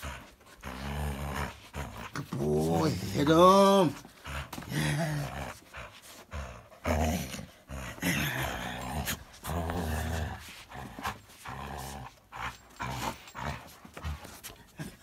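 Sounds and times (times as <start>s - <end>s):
dog growling: 0.0s - 15.0s.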